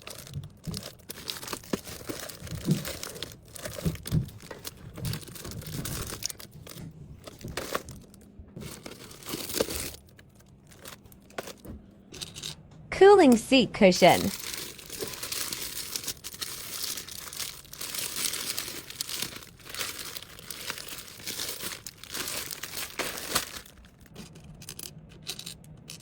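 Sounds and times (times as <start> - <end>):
packaging crinkling: 0.0 - 12.5, 14.0 - 26.0.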